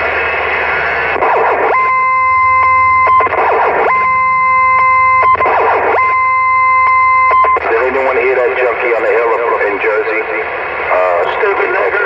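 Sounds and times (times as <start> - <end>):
distorted electronic tone over radio: 0.0 - 12.0.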